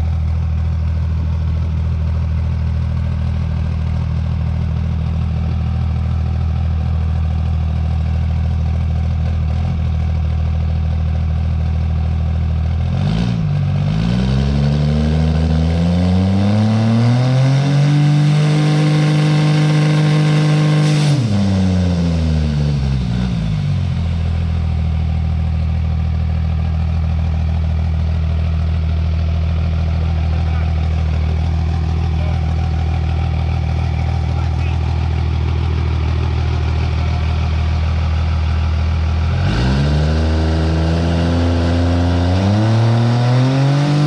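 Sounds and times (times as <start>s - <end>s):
diesel truck engine idling and revving: 0.0s - 44.0s.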